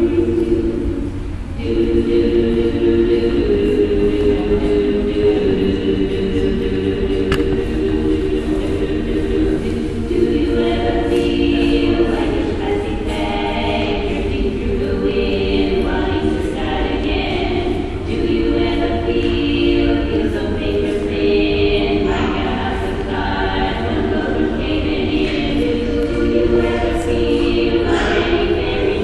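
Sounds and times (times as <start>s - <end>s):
choir singing held chords: 0.0s - 29.0s
steady low hum: 0.0s - 29.0s.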